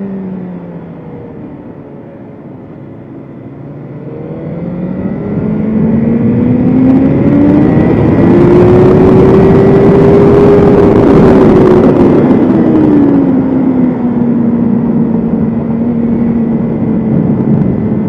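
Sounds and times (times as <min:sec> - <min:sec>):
motorcycle engine accelerating: 0:00.0 - 0:18.0
wind rush: 0:01.7 - 0:18.0.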